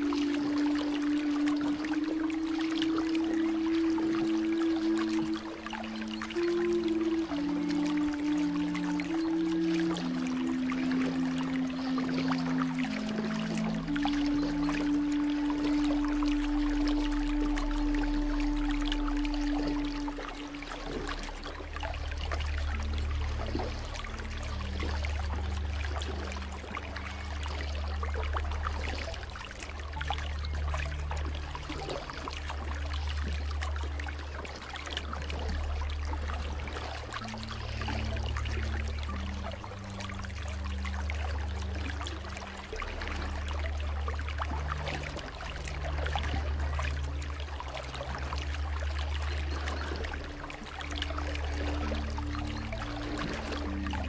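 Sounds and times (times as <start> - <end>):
river water babbling over stones: 0.0 - 54.0
soft background music: 0.0 - 54.0
stream splashing over rocks: 0.0 - 54.0.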